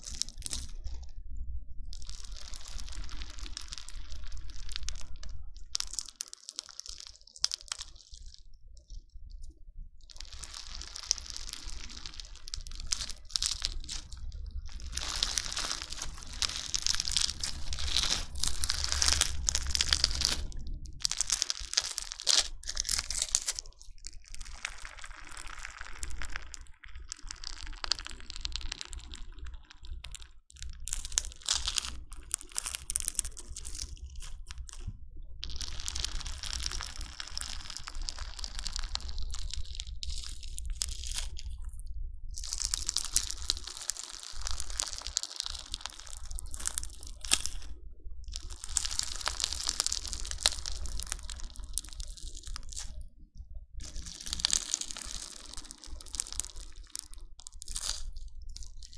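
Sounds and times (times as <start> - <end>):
crunchy slime squeezed: 0.0 - 1.0, 1.9 - 8.4, 10.1 - 41.6, 42.3 - 53.0, 53.8 - 58.9.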